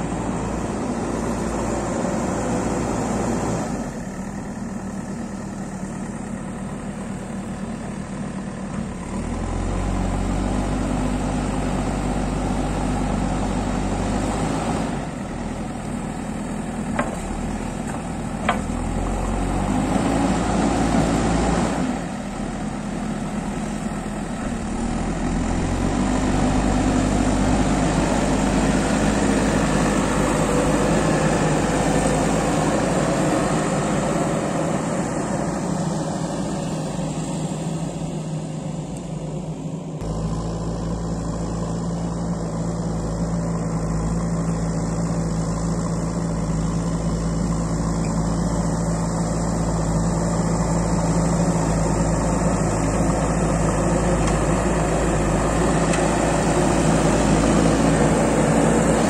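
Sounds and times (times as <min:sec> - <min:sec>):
diesel engine revving: 0:00.0 - 0:07.1, 0:08.8 - 0:59.0.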